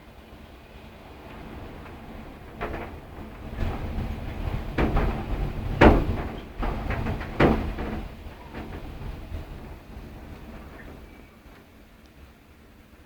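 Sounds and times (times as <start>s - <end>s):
wind buffeting microphone: 0.8s - 11.6s.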